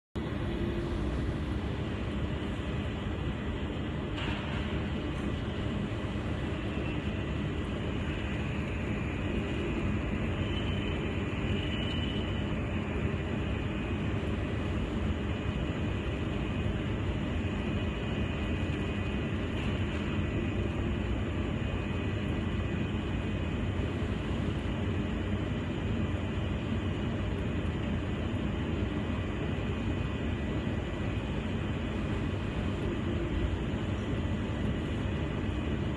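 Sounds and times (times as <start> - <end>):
welding machine hum and hiss: 0.2 - 35.9.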